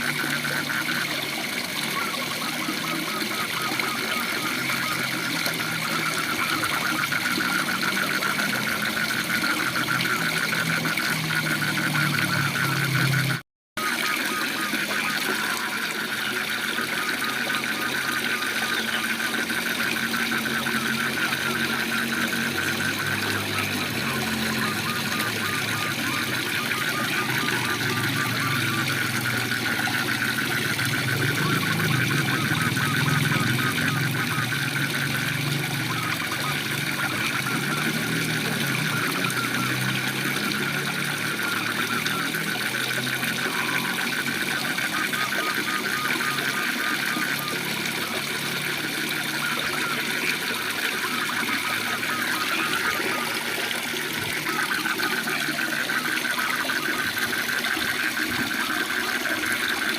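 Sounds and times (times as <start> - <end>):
frogs trilling: 0.0 - 59.9.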